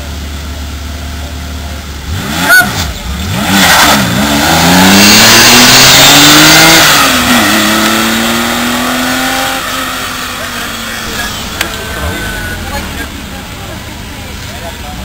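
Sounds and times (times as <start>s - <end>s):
car engine revving and accelerating: 1.9s - 15.0s.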